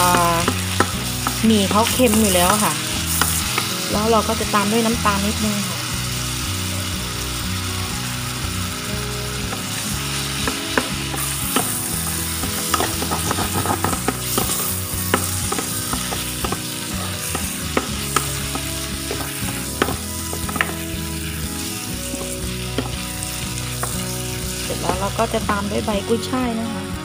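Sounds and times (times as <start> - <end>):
noodles sizzling in a pan: 0.0 - 27.0.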